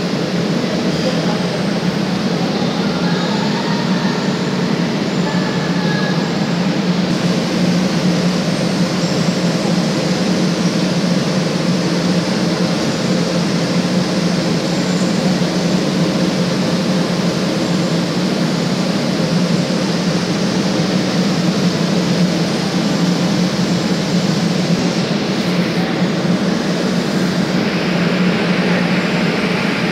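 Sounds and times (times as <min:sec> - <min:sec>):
machinery humming: 0:00.0 - 0:29.9.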